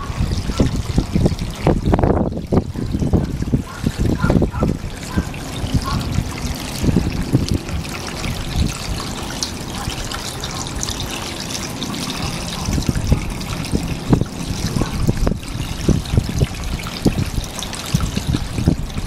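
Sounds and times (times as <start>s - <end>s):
low splashes and gurgles: 0.0s - 19.0s
water trickling and splashing: 0.0s - 19.0s.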